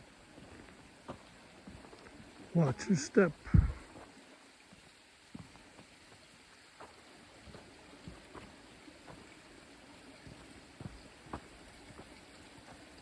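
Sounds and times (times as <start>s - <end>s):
footsteps on a trail: 0.0s - 2.8s, 3.4s - 13.0s
creek rushing: 0.0s - 13.0s.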